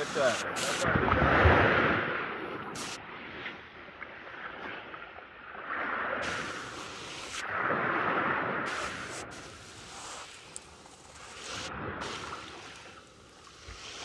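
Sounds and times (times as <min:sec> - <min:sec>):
sea surf washing onto beach: 0:00.0 - 0:03.6, 0:05.6 - 0:14.0.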